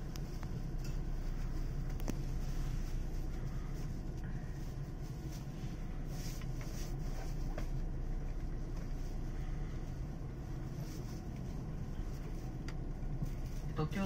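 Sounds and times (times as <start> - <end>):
train car equipment hum: 0.0 - 14.0.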